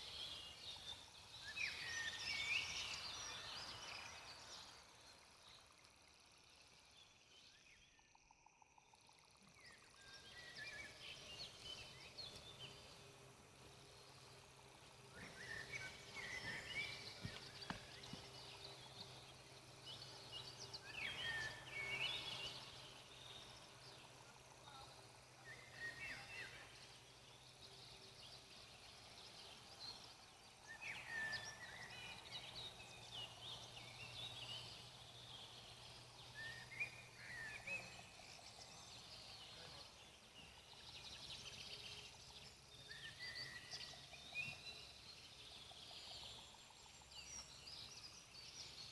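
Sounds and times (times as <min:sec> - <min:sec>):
songbird chirping: 0:00.0 - 0:48.9.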